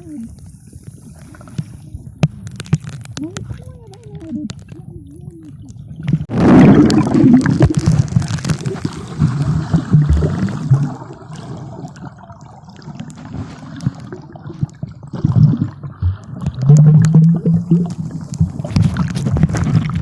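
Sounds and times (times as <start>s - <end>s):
sea water splashing: 0.0s - 20.0s.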